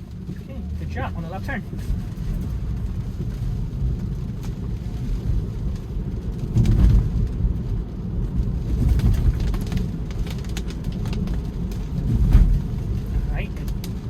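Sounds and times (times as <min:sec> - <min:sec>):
road and tyre rumble in car: 0:00.0 - 0:14.0.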